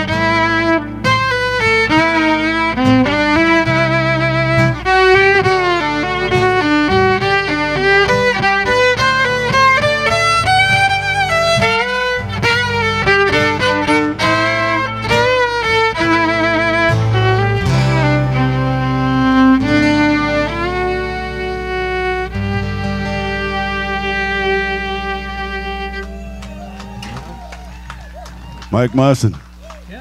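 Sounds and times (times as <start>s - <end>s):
fiddle melody with vibrato: 0.0s - 26.3s.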